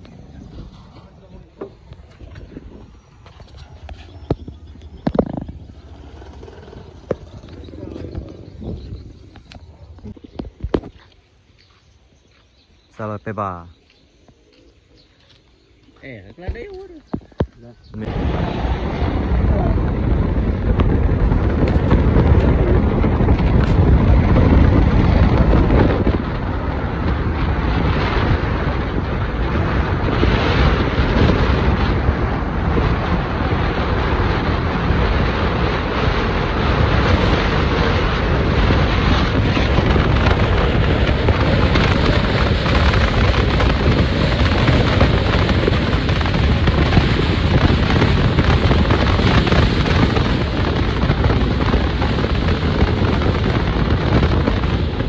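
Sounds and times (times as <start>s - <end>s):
road and engine noise: 0.0s - 55.0s
wind buffeting microphone: 0.0s - 55.0s.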